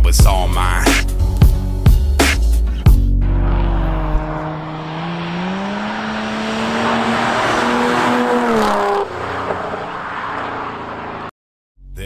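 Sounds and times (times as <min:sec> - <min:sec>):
car engine accelerating: 0:01.3 - 0:11.3.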